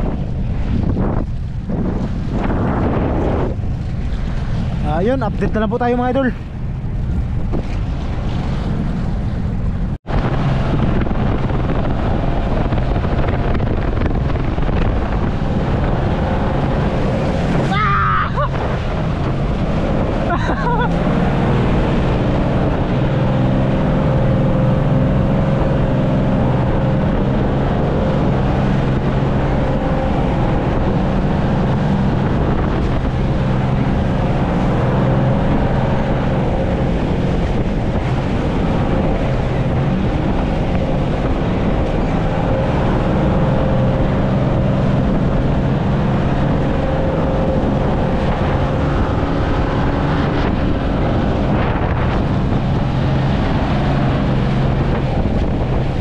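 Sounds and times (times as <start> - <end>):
boat engine running: 0.0 - 56.0
wind buffeting microphone: 0.0 - 56.0.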